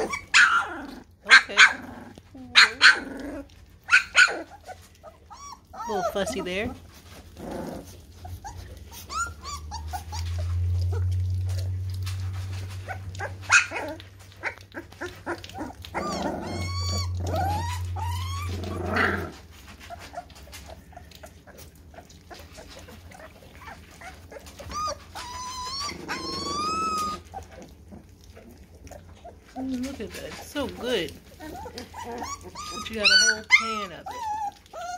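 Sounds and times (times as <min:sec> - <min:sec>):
low steady hum: 0:00.0 - 0:34.9
puppies lapping from metal pan: 0:00.0 - 0:34.9
puppies whining and squeaking: 0:00.0 - 0:34.9.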